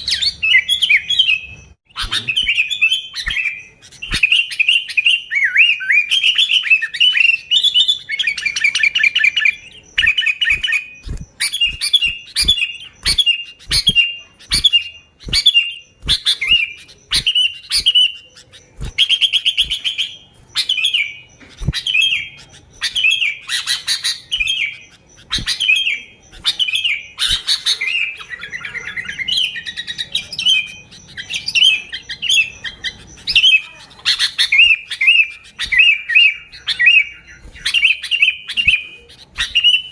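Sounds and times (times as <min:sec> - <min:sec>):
bulbul singing: 0:00.0 - 0:39.9
sharp bird clicks: 0:01.9 - 0:07.2, 0:08.2 - 0:39.9.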